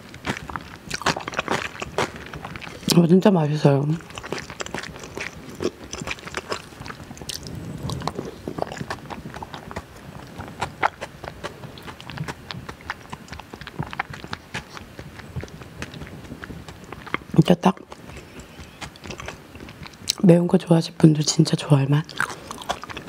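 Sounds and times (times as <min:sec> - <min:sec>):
wet chewing smacks and clicks: 0:00.0 - 0:20.3, 0:22.0 - 0:23.0.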